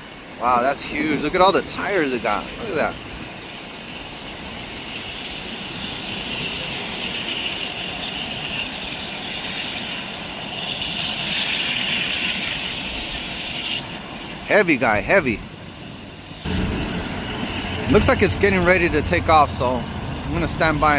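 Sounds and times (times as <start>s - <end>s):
airliner jet engines rushing: 0.0s - 20.9s
high engine whine: 0.0s - 20.9s.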